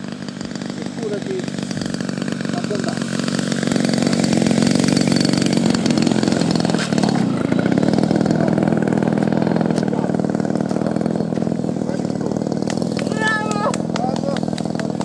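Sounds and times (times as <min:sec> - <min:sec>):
model plane engine and propeller: 0:00.0 - 0:15.0.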